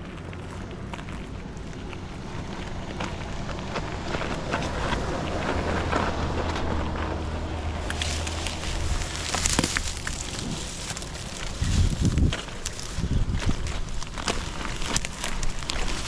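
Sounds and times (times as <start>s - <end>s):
bicycle rolling noise: 0.0s - 16.0s
wind buffeting microphone: 0.0s - 16.0s.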